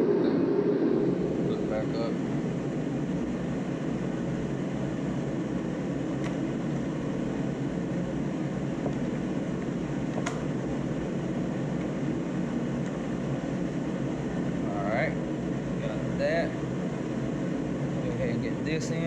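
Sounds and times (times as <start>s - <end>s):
low rushing background noise: 0.0s - 19.0s.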